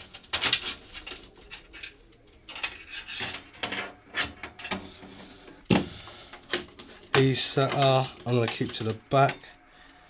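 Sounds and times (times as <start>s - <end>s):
cables and plastic connectors rustling: 0.0s - 9.7s.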